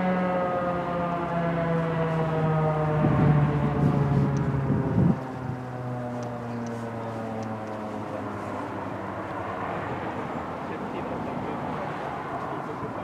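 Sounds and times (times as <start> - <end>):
rotating warning siren winding down: 0.0 - 13.0.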